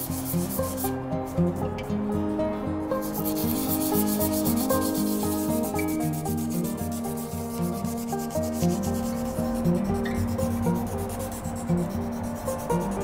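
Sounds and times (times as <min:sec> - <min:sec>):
wire brush scrubbing wood: 0:00.0 - 0:00.9, 0:03.0 - 0:13.0
background music: 0:00.0 - 0:13.0.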